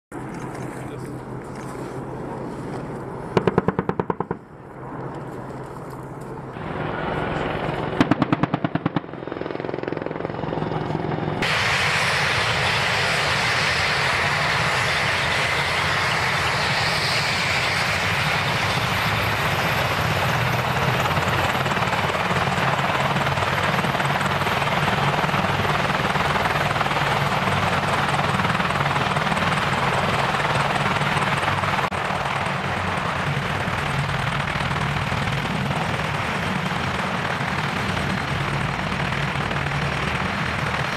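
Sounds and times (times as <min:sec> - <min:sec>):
helicopter rotors running: 0:00.1 - 0:40.9.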